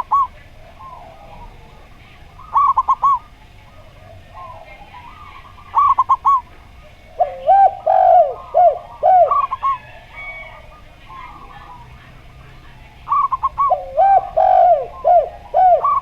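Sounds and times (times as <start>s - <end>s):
doves cooing: 0.0s - 16.0s.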